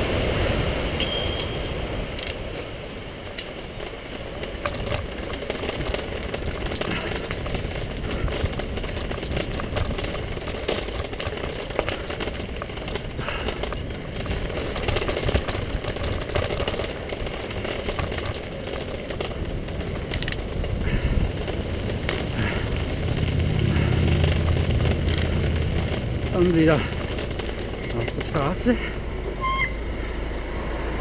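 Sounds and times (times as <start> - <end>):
bicycle tyres rumbling on gravel: 0.0 - 31.0
bike knocking and rattling: 1.0 - 30.2.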